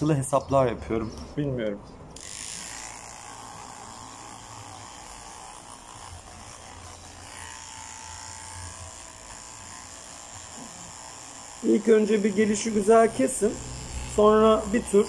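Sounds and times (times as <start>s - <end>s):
electric clipper buzzing: 2.2s - 15.0s.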